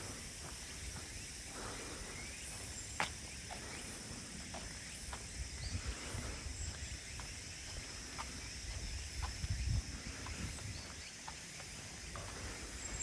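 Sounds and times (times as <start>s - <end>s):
crickets and insects chorus: 0.0s - 13.0s.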